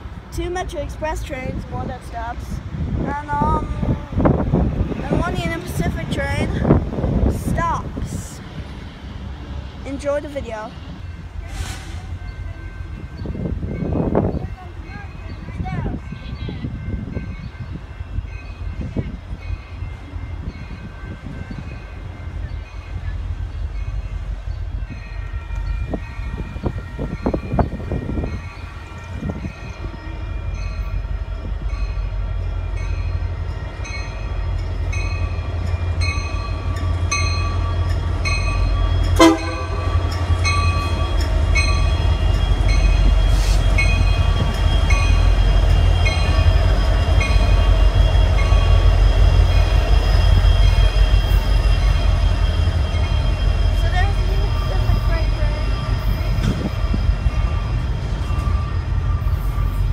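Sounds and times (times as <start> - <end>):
locomotive engine rumble: 0.0 - 59.9.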